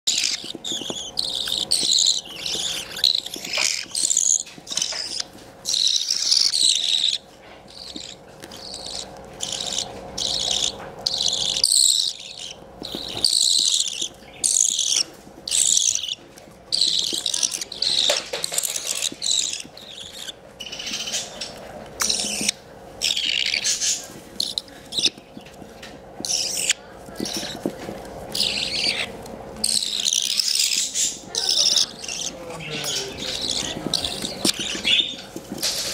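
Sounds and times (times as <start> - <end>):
budgerigar chicks chirping: 0.0 - 35.9.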